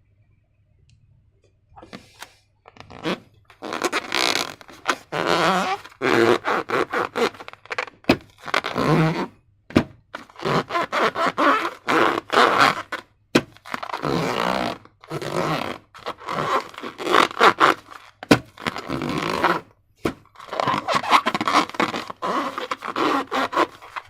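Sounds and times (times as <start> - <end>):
rubber balloon squeaking: 2.7 - 9.4, 10.2 - 24.0.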